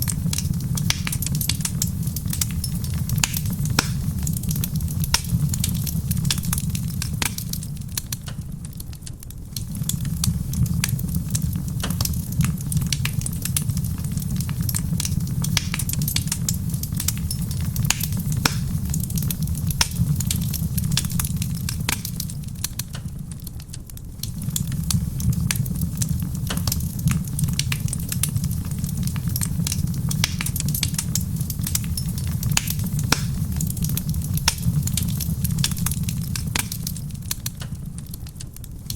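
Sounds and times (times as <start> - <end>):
fire pops and snaps: 0.0 - 38.9
rain on a roof: 0.0 - 38.9
steady low rumble: 0.0 - 38.9
wood fire crackling: 0.0 - 38.9.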